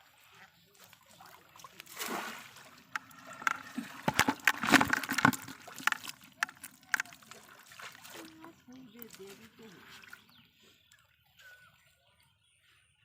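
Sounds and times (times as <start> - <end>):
water splashing and sloshing: 0.1 - 11.0.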